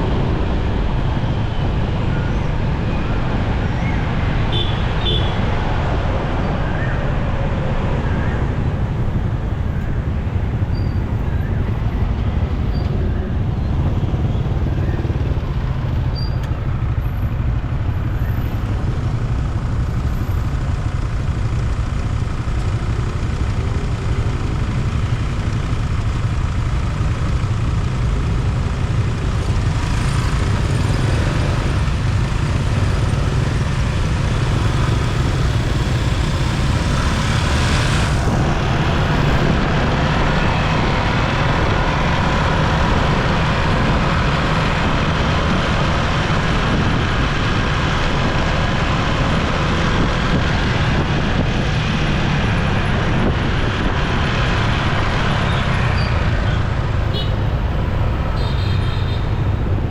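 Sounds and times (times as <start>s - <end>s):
surrounding traffic noise: 0.0s - 59.9s
motorcycle engine: 8.8s - 59.9s.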